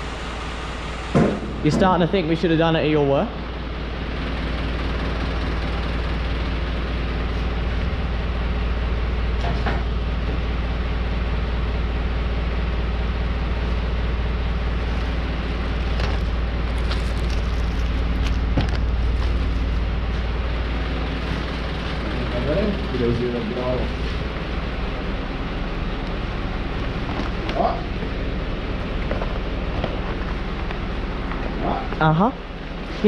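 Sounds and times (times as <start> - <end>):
low rumble and hum: 0.0 - 33.0.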